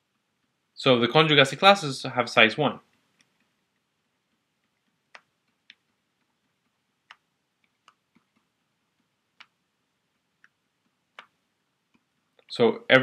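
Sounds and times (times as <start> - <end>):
stylus tapping tablet screen: 0.0 - 0.8, 2.8 - 12.5.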